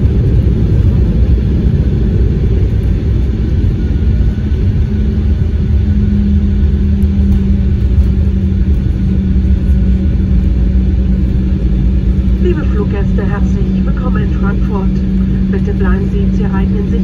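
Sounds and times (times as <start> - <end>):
airliner deep rumble: 0.0 - 17.0
steady low hum: 0.0 - 17.0.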